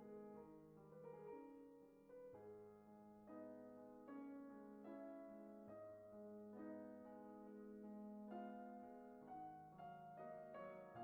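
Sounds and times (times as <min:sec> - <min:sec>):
soft slow piano music: 0:00.0 - 0:11.0.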